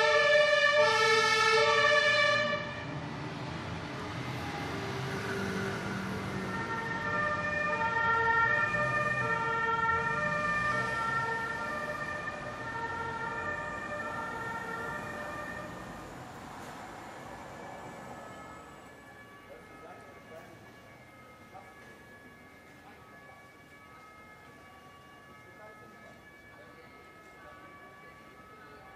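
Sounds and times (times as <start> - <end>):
ambulance siren two-tone: 0.0 - 3.0, 4.0 - 28.9
road traffic rumble: 0.0 - 28.9.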